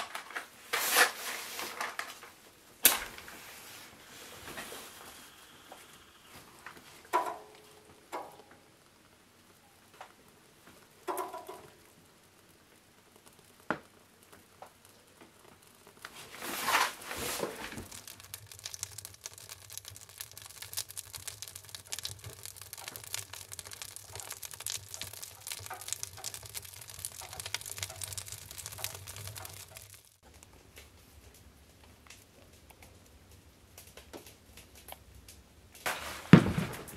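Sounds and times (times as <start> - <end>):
kindling crackling and popping: 0.0 - 36.9.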